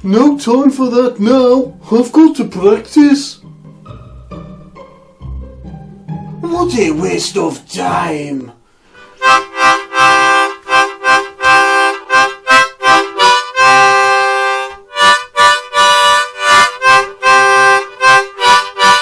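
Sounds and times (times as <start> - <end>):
harmonica chords: 0.0 - 19.0.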